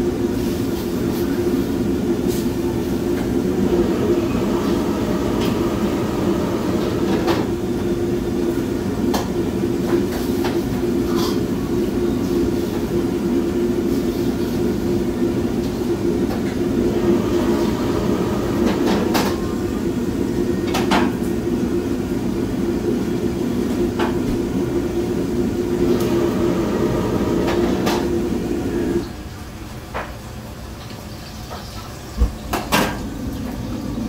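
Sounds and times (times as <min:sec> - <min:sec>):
gas wok burner roaring: 0:00.0 - 0:34.0.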